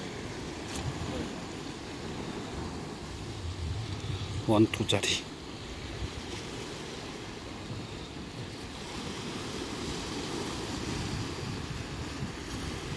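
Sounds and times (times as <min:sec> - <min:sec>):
sea waves washing over rocks: 0:00.0 - 0:12.9
wind rumbling on microphone: 0:00.0 - 0:12.9.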